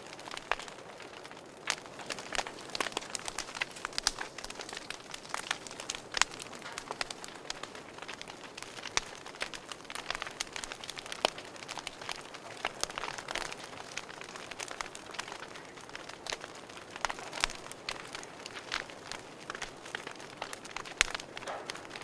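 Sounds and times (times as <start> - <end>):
soft steady hiss: 0.0 - 22.0
wood fire crackling: 0.0 - 22.0.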